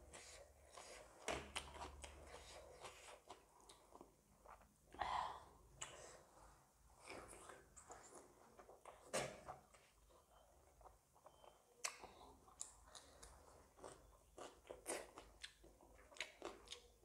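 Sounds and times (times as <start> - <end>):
chewing and mouth sounds: 0.1 - 4.7, 7.0 - 17.0.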